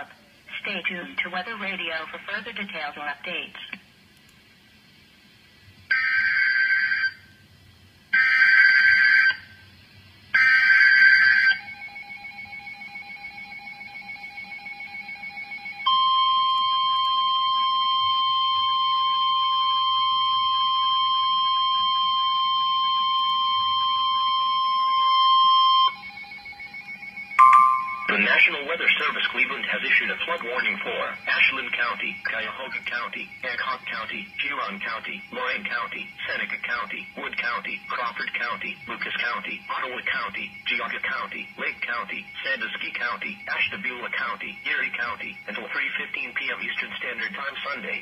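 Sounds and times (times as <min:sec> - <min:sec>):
steady warning alarm tone: 0:05.9 - 0:07.4, 0:08.1 - 0:48.0.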